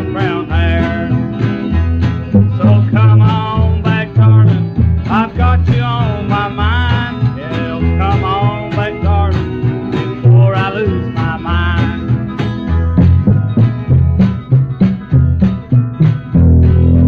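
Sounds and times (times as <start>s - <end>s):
country song from a record: 0.0s - 17.0s.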